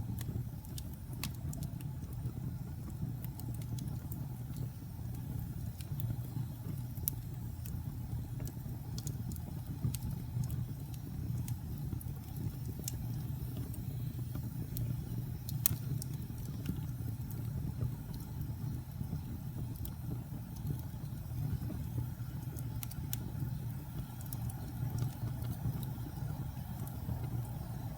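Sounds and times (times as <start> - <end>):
fire crackles and pops: 0.0 - 27.9
fire rumbling in fireplace: 0.0 - 27.9.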